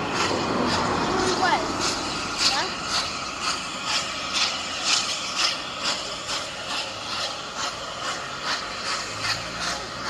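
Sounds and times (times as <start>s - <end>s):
steam hissing: 0.0s - 10.0s
steam locomotive chuffing: 0.0s - 10.0s.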